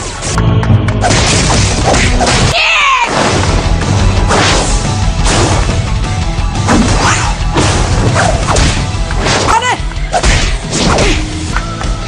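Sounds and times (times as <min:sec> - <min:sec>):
dramatic action music: 0:00.0 - 0:12.0.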